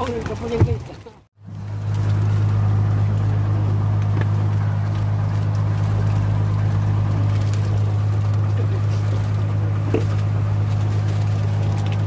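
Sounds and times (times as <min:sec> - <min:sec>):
boat engine running steadily: 0:00.0 - 0:12.0.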